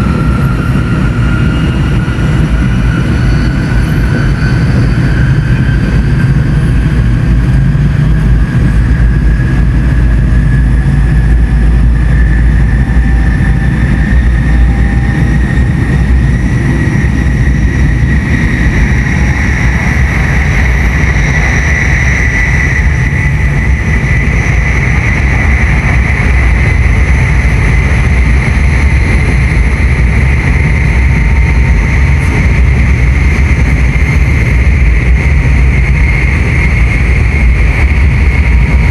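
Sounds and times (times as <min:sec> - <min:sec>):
train motor whine rising: 0:00.0 - 0:38.9
train rumble: 0:00.0 - 0:38.9.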